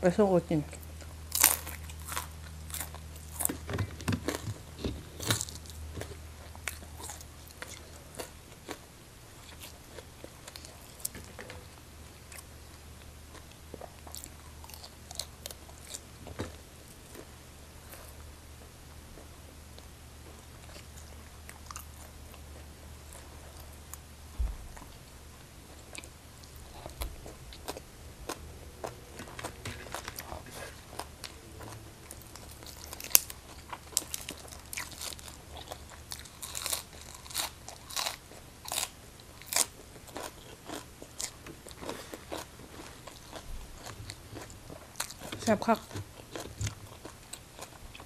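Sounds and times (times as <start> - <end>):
crisp chewing crunches: 0.7 - 11.5, 12.1 - 18.2, 25.6 - 48.0.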